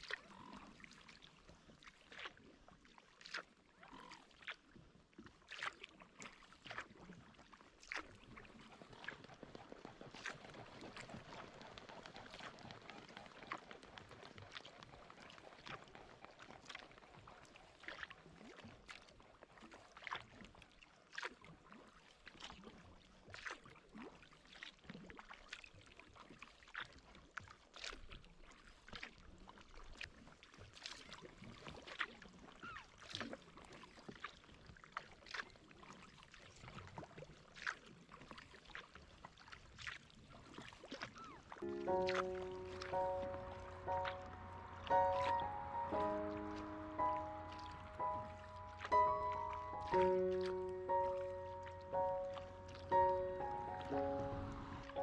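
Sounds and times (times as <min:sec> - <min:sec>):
paddle splashes and drips: 0:00.0 - 0:55.0.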